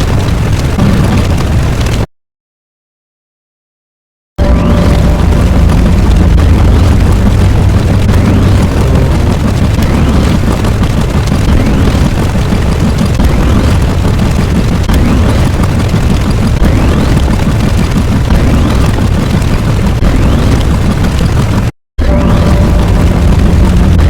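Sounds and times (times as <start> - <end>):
heavy explosion rumble: 0.0 - 2.1, 4.4 - 24.0.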